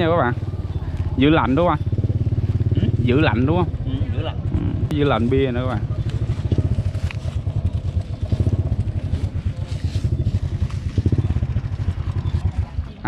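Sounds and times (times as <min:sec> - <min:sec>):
small engine rumbling: 0:00.0 - 0:13.0.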